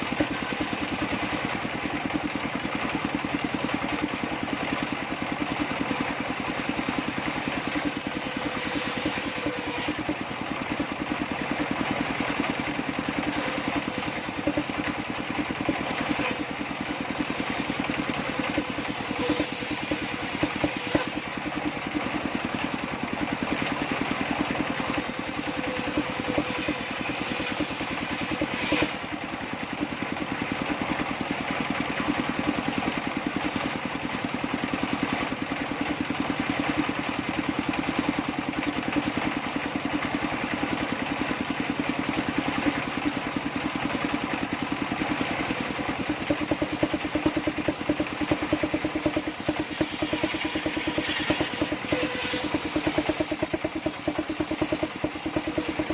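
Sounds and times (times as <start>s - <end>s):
engine-driven circular saw running: 0.0s - 55.9s.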